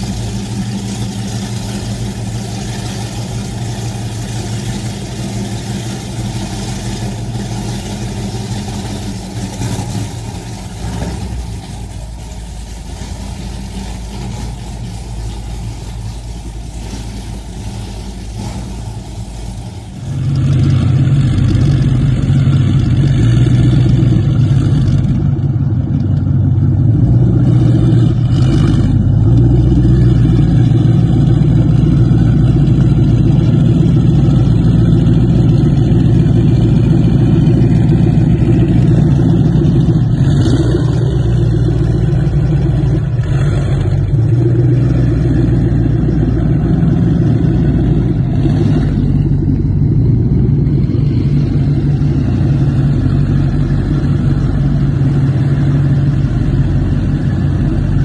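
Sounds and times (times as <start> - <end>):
speedboat engines idling: 0.0 - 58.0.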